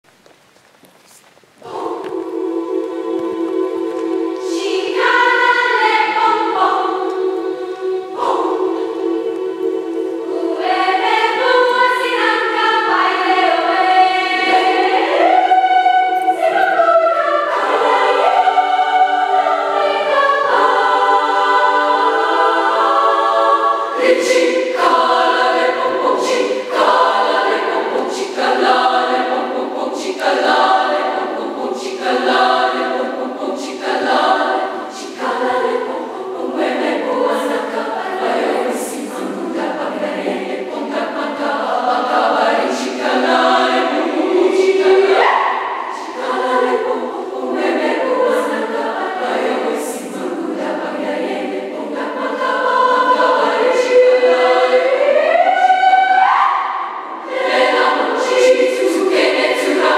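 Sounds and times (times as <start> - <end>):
girls' choir singing: 1.6 - 59.9.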